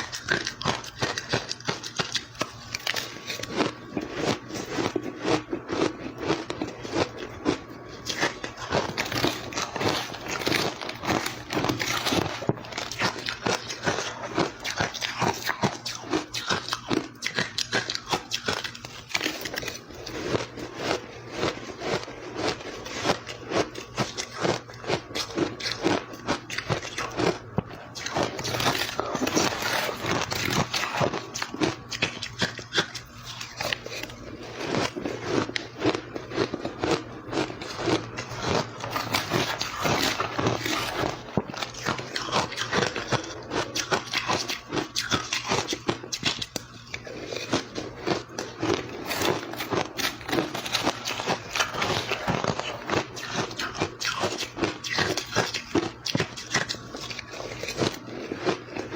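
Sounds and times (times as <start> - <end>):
crushed ice being chewed: 0.0 - 58.9.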